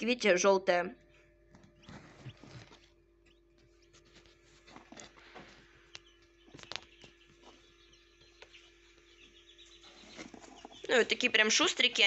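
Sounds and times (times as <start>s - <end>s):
chicks peeping: 0.7s - 12.0s
chicks pecking on paper: 1.0s - 12.0s.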